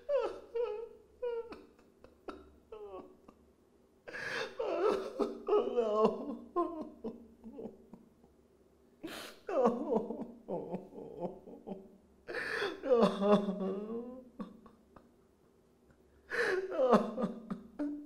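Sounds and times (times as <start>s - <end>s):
man sobbing and wailing: 0.0s - 3.4s, 4.1s - 8.1s, 9.0s - 15.1s, 16.3s - 18.0s.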